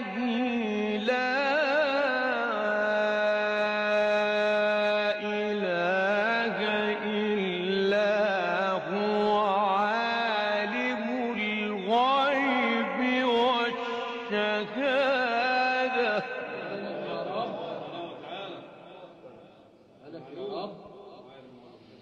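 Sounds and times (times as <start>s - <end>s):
man reciting melodically: 0.0s - 22.0s.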